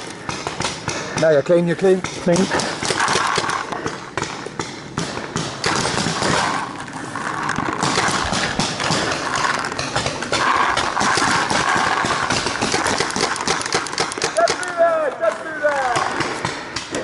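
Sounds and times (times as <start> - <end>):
paintball markers firing: 0.0 - 17.0.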